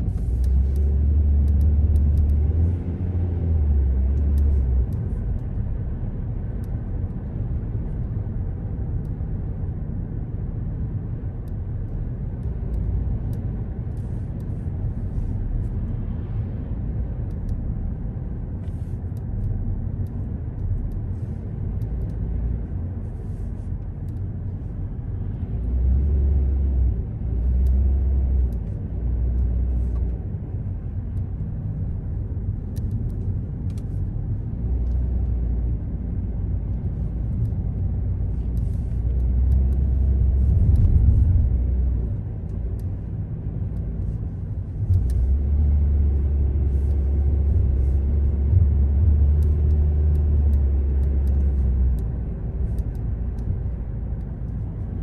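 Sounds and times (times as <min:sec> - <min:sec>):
car road and engine rumble: 0:00.0 - 0:55.0
deep heavy rumble: 0:00.0 - 0:55.0.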